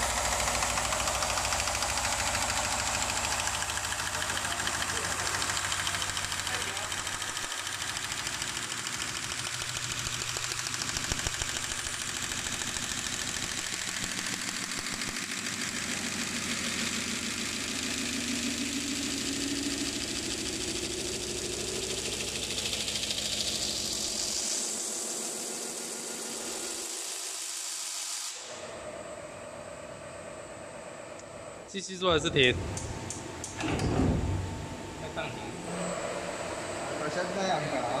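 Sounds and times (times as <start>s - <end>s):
metal spinning machine whirring: 0.0s - 27.2s, 32.0s - 38.0s.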